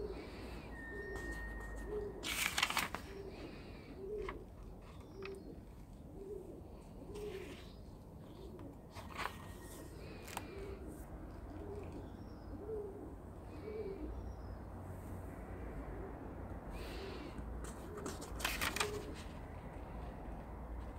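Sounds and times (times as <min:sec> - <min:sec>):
pigeon cooing: 0:00.0 - 0:14.6, 0:15.8 - 0:20.1.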